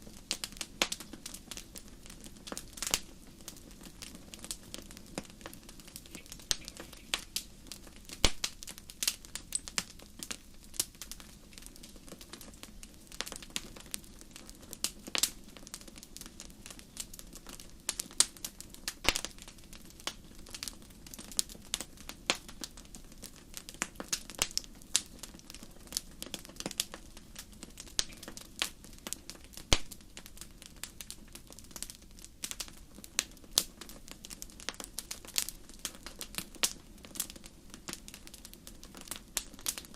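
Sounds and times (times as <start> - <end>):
soft steady hiss: 0.0 - 39.9
wood fire crackling and popping: 0.0 - 39.9.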